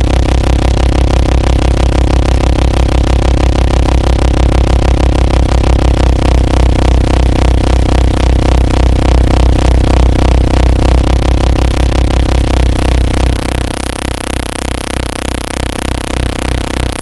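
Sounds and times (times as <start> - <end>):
harsh noise drone: 0.0 - 17.0
pulsing low hum: 0.0 - 17.0
rapid flutter: 0.0 - 17.0.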